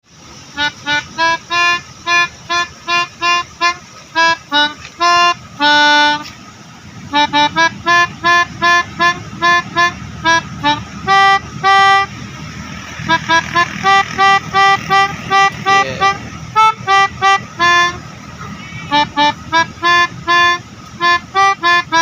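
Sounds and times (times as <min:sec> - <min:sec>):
multi-tone musical horn melody: 0:00.5 - 0:22.0.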